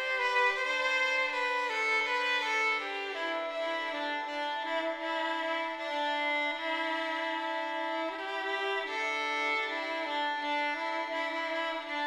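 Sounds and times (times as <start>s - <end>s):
slow bowed string melody: 0.0s - 12.0s.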